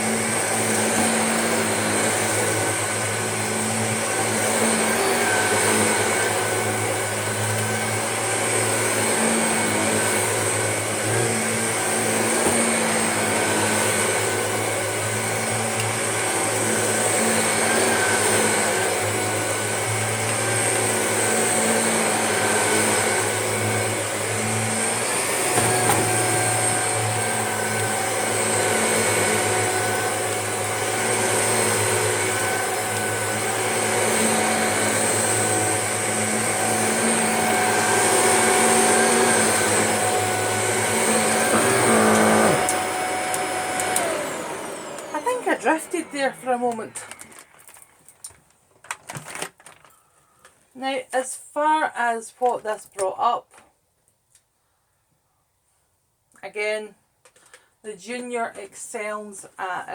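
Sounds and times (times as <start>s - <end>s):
upright vacuum cleaner on rug: 0.0s - 48.3s.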